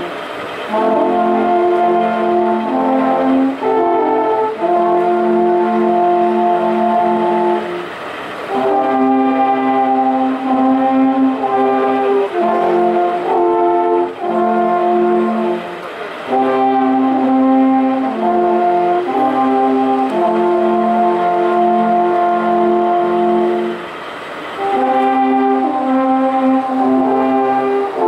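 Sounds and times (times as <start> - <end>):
alphorns playing held chords: 0.0 - 28.0.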